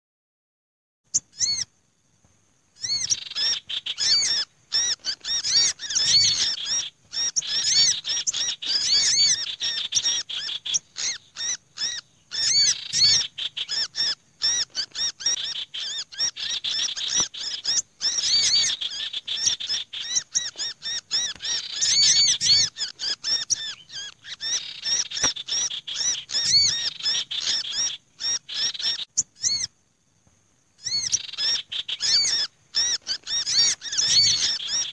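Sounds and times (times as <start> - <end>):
bird distress calls: 1.1 - 1.8, 2.8 - 29.8, 30.8 - 34.9
small birds chirping and chattering: 1.1 - 1.8, 2.7 - 34.9.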